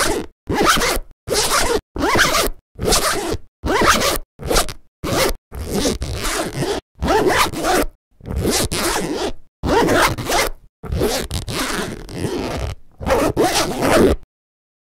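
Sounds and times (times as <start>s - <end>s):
zipper rasping: 0.0s - 14.2s.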